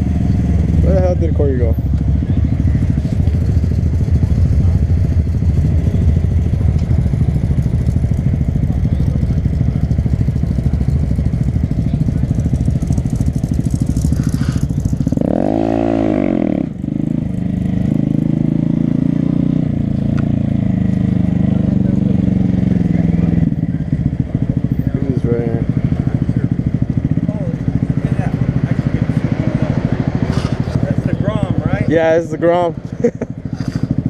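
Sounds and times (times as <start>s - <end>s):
motorcycle engine revving: 0.0s - 34.0s
motorcycle engine running: 0.0s - 34.0s.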